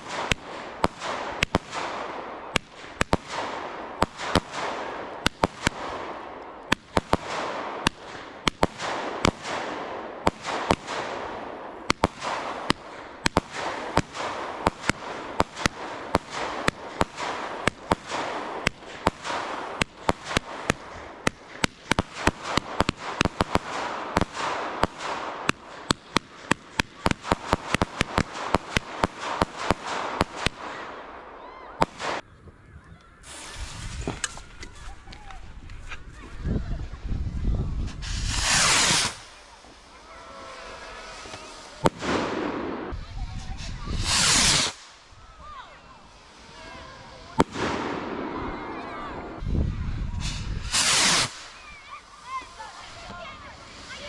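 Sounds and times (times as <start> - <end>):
fireworks bangs: 0.0 - 32.3, 33.2 - 54.0
fireworks crackling and hiss: 0.0 - 32.3, 33.1 - 54.0.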